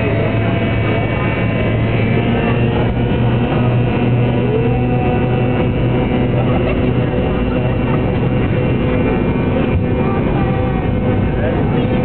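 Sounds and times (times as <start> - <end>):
airliner engines at takeoff power: 0.0 - 12.0.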